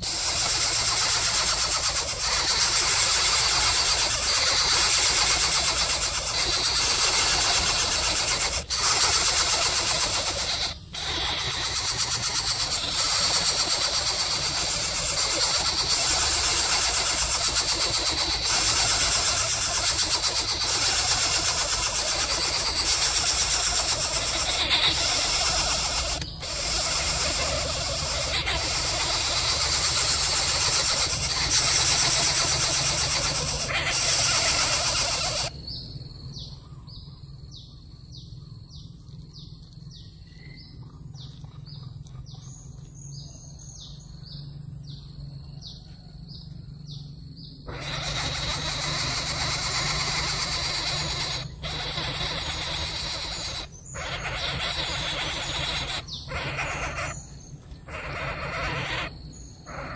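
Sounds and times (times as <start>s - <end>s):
small bird chirping: 0.0s - 59.9s.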